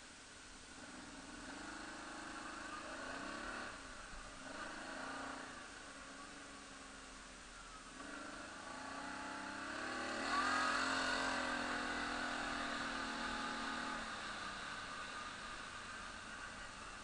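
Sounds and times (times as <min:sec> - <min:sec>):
quad bike engine running: 0:00.8 - 0:17.0.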